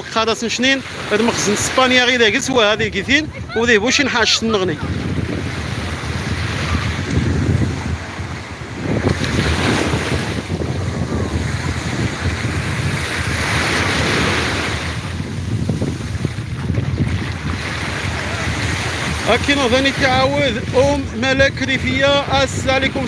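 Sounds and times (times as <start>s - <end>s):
waves washing on sandy shore: 0.0s - 23.0s
wind buffeting microphone: 0.0s - 23.0s.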